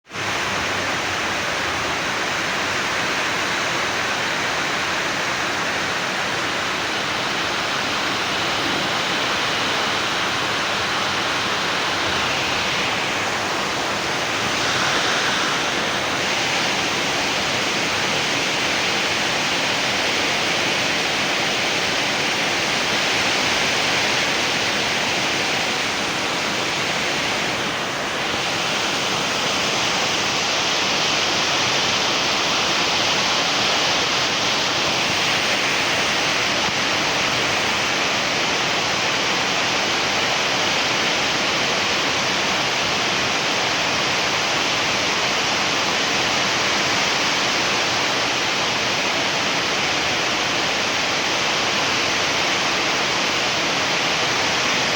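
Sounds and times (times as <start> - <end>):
steady rushing noise: 0.0 - 54.9.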